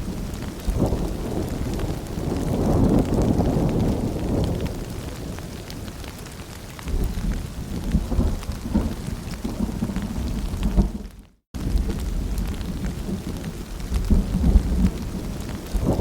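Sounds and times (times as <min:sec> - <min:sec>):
rolling thunder rumble: 0:00.0 - 0:06.2, 0:06.8 - 0:16.0
rain falling: 0:00.0 - 0:16.0.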